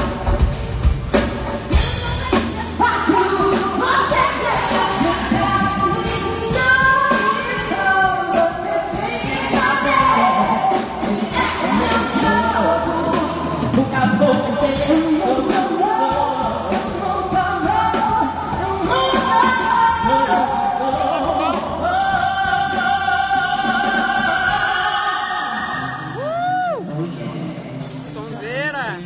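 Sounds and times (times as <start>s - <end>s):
live pop band: 0.0s - 29.0s
women singing into microphones: 2.5s - 27.4s.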